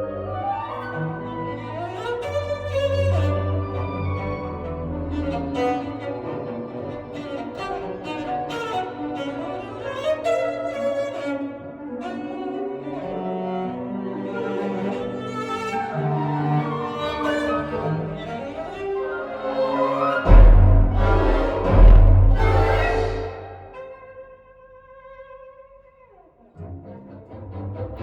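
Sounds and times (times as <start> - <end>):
orchestral string music: 0.0 - 25.6, 26.4 - 28.0.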